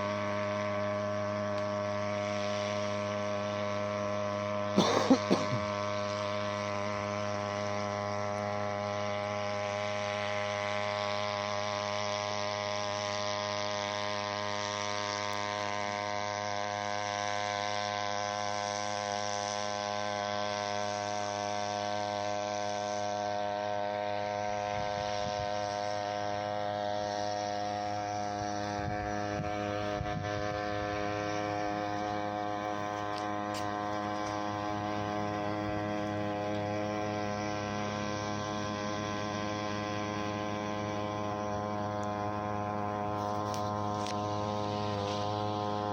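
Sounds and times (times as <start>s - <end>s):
outboard motor buzzing: 0.0s - 45.9s.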